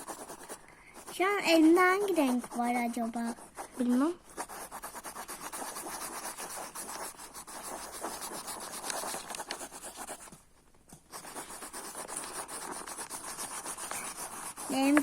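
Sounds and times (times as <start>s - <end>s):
colouring strokes scratching paper: 0.0s - 15.0s.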